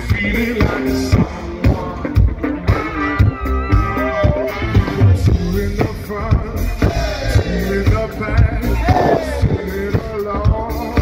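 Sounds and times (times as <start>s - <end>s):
drum kit steady beat: 0.0s - 11.0s
live pop-rock band: 0.0s - 11.0s
person singing: 0.0s - 11.0s.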